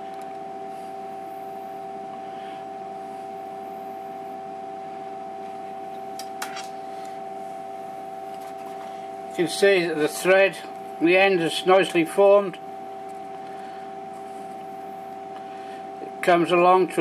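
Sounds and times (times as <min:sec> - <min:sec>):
lathe humming with two-note whine: 0:00.0 - 0:17.0.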